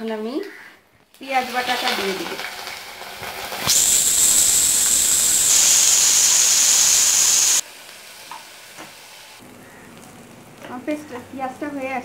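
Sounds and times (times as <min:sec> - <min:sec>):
paste sizzling in hot oil: 0:01.2 - 0:11.6.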